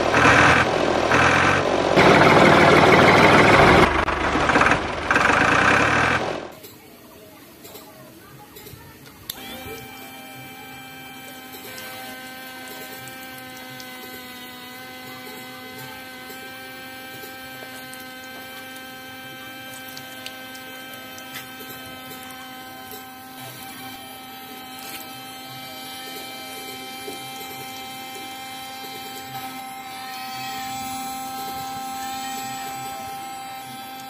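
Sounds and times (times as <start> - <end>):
water pump humming: 0.0 - 6.6, 9.0 - 34.0.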